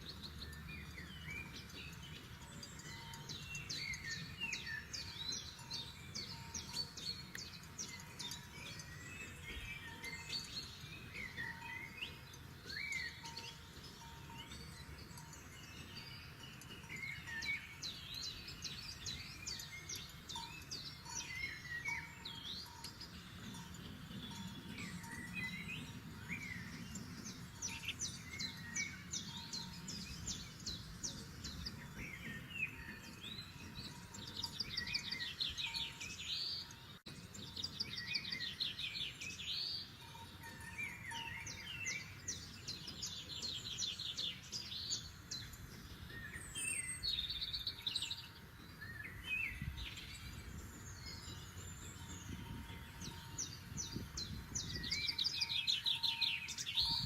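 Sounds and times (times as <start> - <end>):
songbirds trilling and chirping: 0.0 - 57.0.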